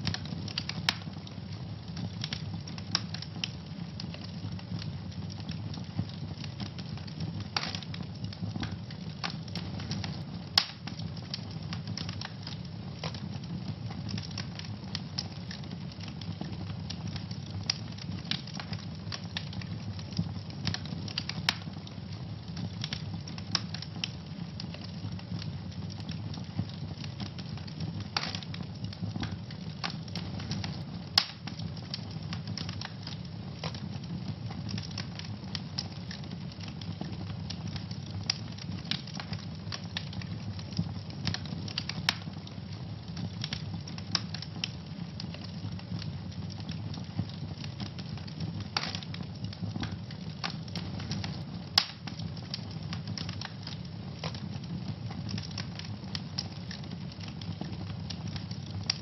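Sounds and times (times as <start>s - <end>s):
fire popping: 0.0s - 59.0s
fire rumbling and crackling: 0.0s - 59.0s.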